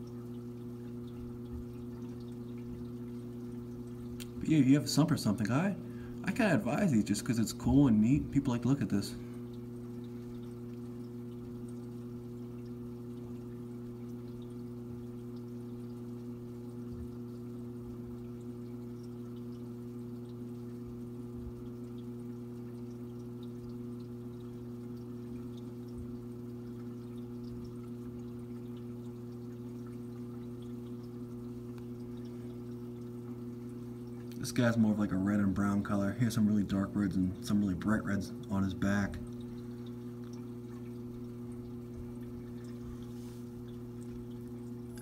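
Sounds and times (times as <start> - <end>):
pump humming: 0.0 - 45.0
water pouring: 0.0 - 45.0.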